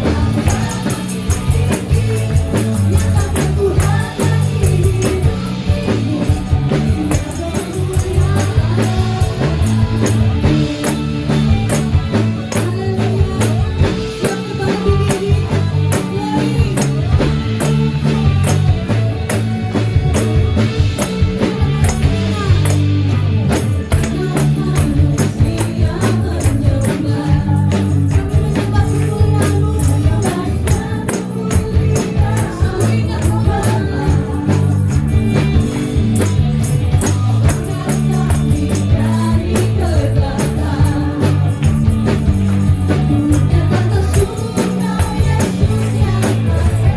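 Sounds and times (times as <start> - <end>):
singing over a band: 0.0 - 46.9
tambourines shaken and struck: 0.0 - 46.9.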